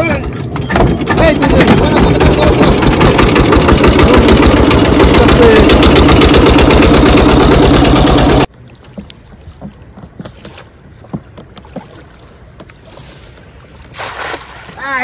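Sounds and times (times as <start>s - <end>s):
boat engine chugging: 0.0s - 12.6s.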